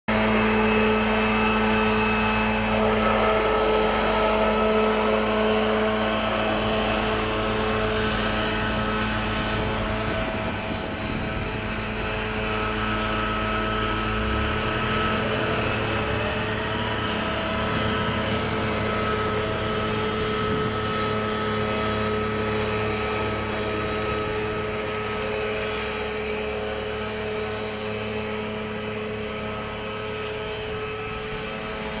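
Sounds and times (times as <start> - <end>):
leaf blower engine drone: 0.1 - 32.0.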